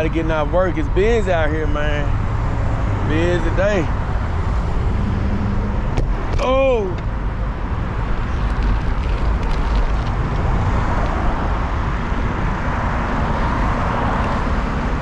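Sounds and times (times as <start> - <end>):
passing cars rushing: 0.0 - 15.0.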